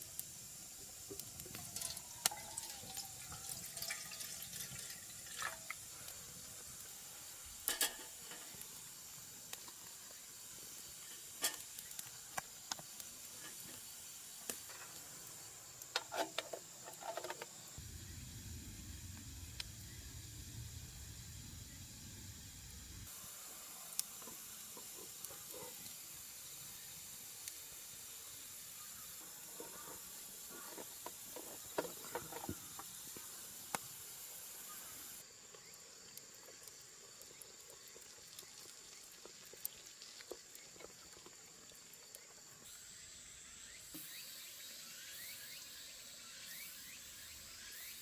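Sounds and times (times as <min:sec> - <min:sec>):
faint steady hiss: 0:00.0 - 0:48.0.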